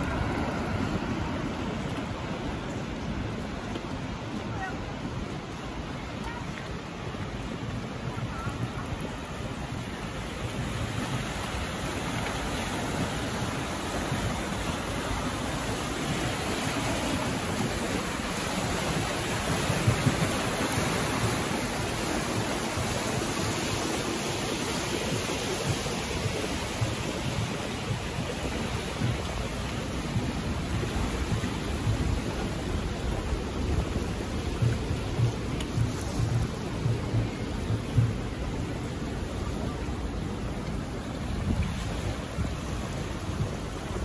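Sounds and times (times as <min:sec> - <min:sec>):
turbulent water rushing: 0:00.0 - 0:44.0.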